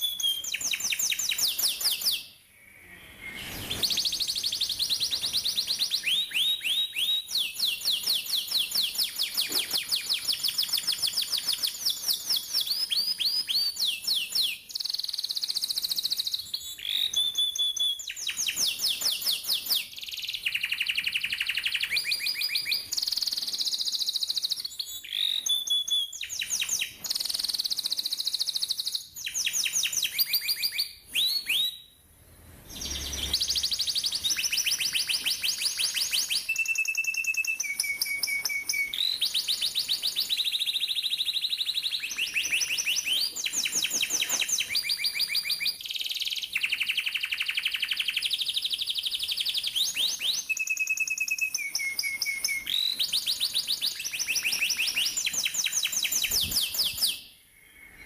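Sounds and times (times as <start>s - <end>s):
canary singing trills: 0.0s - 31.9s, 32.7s - 58.0s.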